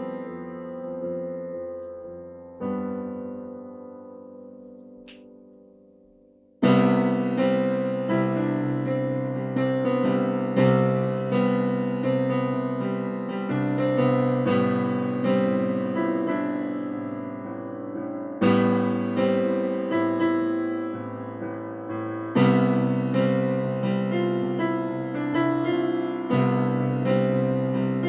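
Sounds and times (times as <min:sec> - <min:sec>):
slow solo piano music: 0:00.0 - 0:28.0.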